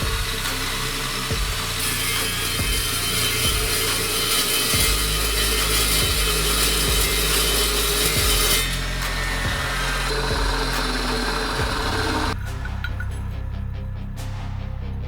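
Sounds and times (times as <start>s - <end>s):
power tool cutting with rasping hiss: 0.0s - 12.4s.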